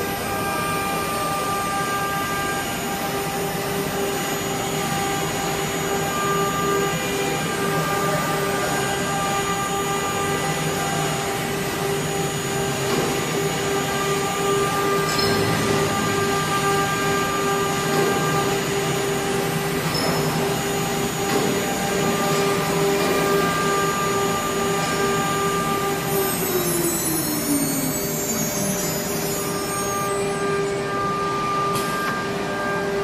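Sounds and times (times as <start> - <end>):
router spindle whine: 0.0 - 33.0.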